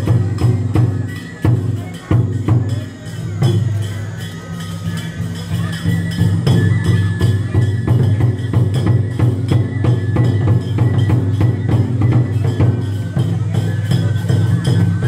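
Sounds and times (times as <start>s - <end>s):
taiko drums beating: 0.0s - 15.0s.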